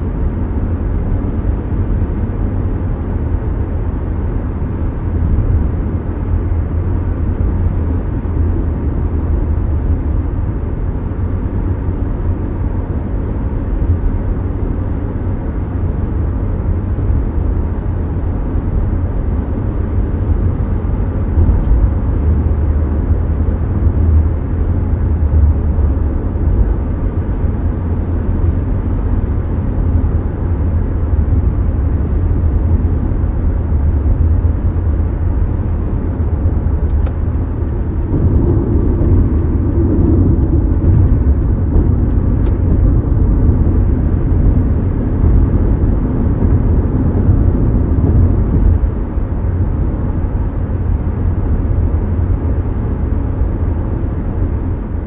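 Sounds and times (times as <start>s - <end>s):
road and engine drone in car: 0.0s - 55.0s.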